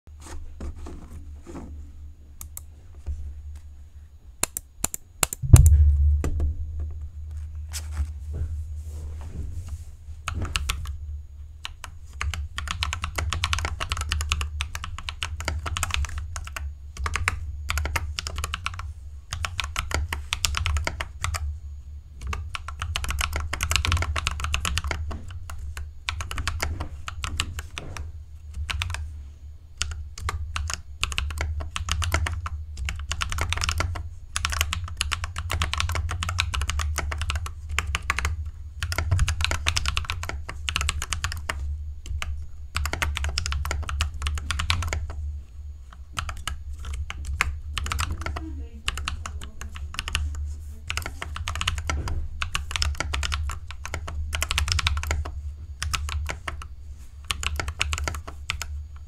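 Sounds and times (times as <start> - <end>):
steady low hum: 0.1 - 59.0.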